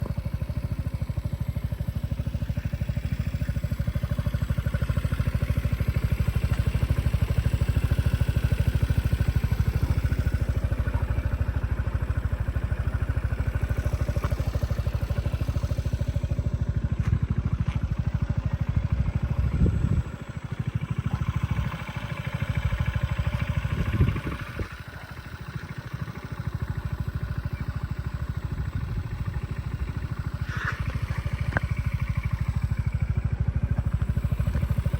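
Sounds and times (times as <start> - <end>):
scooter engine idling and revving: 0.0 - 34.9.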